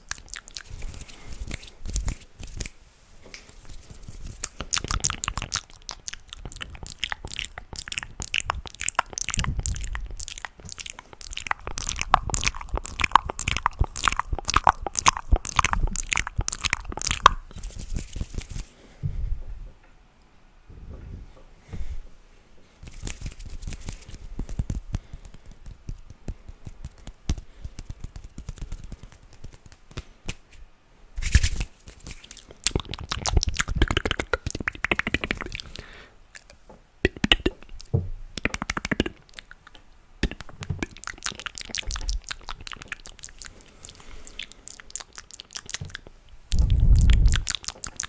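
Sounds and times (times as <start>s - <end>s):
mouth and hand clicks: 0.0s - 18.7s, 22.8s - 30.6s, 31.2s - 48.0s.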